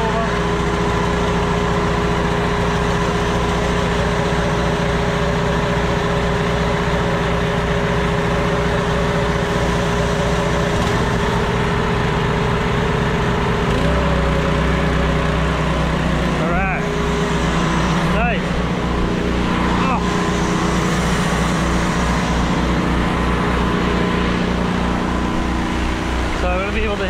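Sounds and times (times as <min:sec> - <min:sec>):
small gasoline engine running: 0:00.0 - 0:27.0.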